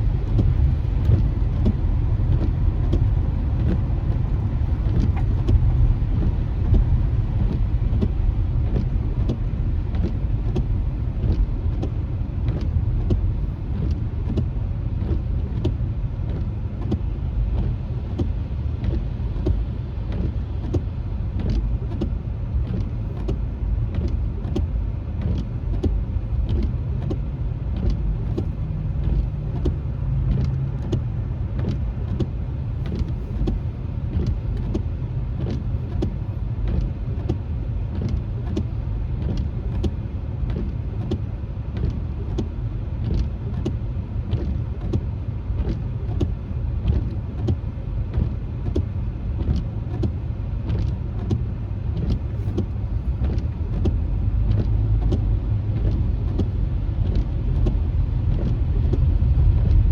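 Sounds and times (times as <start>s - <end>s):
car road rumble from inside: 0.0s - 59.9s
raindrops hitting windshield: 0.0s - 59.9s.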